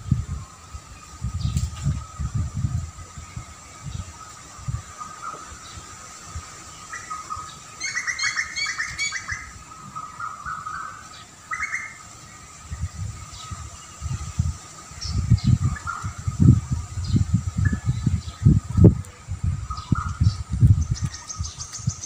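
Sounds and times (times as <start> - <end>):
songbirds chirping: 0.0 - 22.0
wind buffeting microphone: 0.0 - 22.0.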